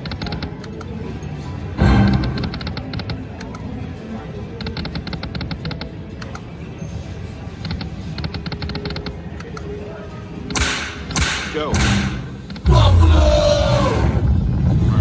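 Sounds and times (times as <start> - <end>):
casino background music: 0.0 - 12.7
chatter: 0.0 - 15.0.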